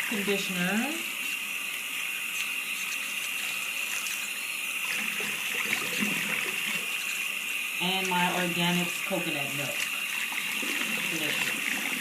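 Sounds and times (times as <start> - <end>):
tap water running into sink: 1.3 - 12.0.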